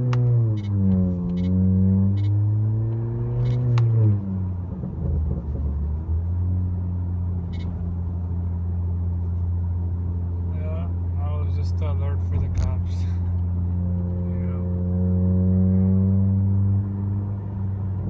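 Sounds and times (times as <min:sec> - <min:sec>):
car engine accelerating and droning: 0:00.0 - 0:18.0.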